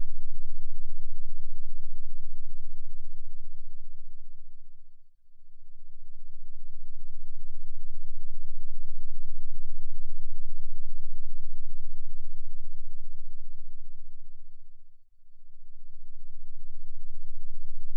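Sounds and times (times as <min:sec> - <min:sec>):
deep electronic hum with flutter: 0:00.0 - 0:17.9
faint high-pitched whine: 0:00.0 - 0:17.9.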